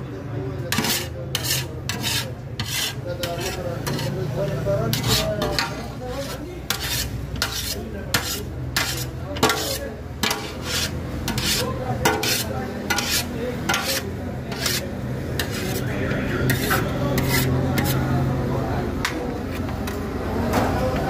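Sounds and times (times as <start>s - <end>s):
rice scraped against metal pot: 0.6s - 18.3s.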